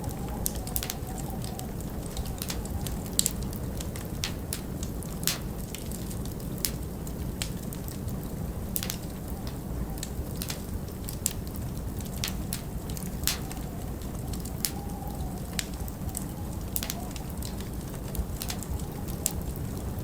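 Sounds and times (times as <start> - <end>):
faint wind whistle: 0.0 - 4.6, 8.4 - 20.0
log fire crackling and popping: 0.0 - 20.0
low rumble of storm wind: 0.0 - 20.0.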